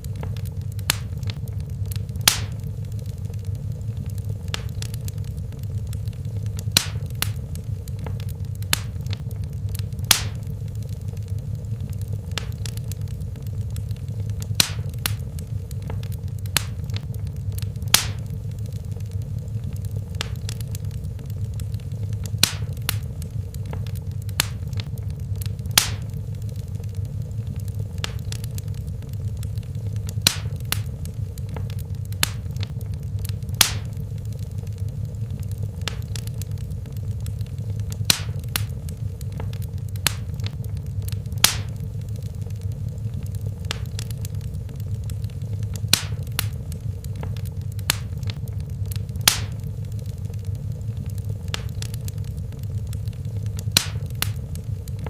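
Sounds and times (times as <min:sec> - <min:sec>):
fire crackling and popping: 0:00.0 - 0:55.0
low rumble of flame: 0:00.0 - 0:55.0.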